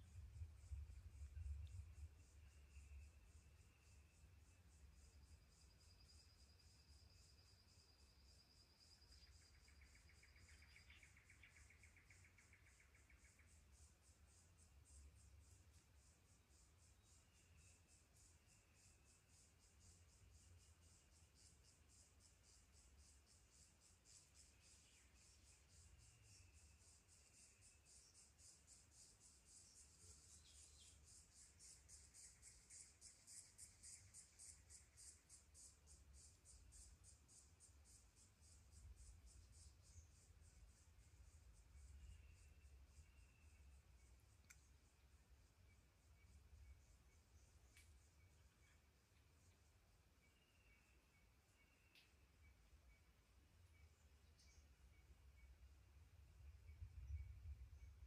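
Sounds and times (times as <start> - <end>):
insects chirping: 0.0 - 58.0
rapid ticking insect trill: 0.0 - 58.0.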